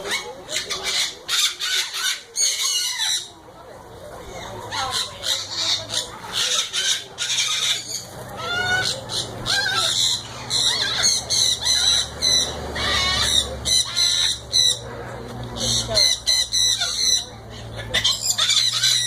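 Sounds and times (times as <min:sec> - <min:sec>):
birds squawking and screeching: 0:00.0 - 0:19.0.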